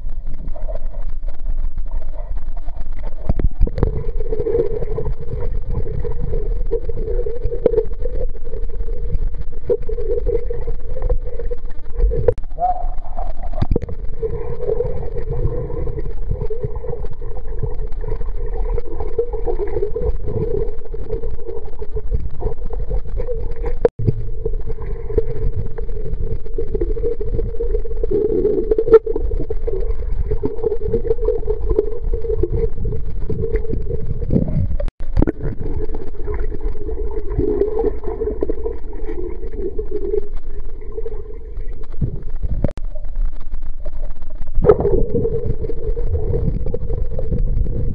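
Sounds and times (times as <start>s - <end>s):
muffled underwater rumble: 0.0s - 47.9s.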